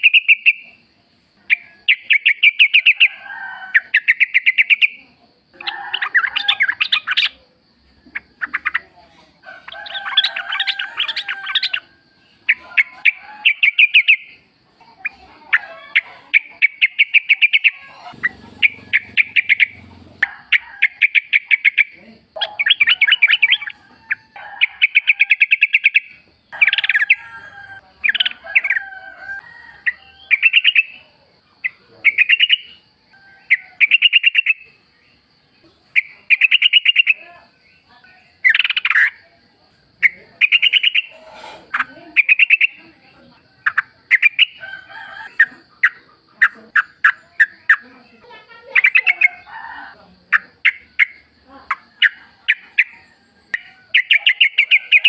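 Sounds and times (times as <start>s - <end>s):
bulbuls singing: 0.0s - 55.0s.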